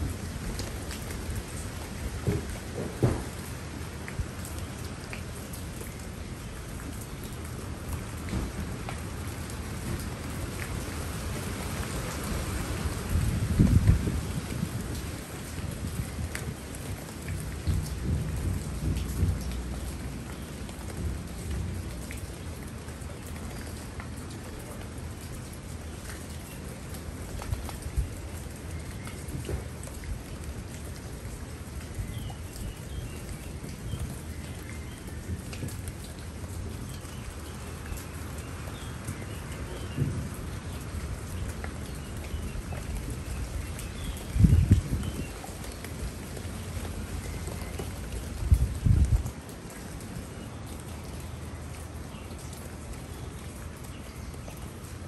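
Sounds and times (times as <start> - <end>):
rain on leafy plants: 0.0 - 55.0.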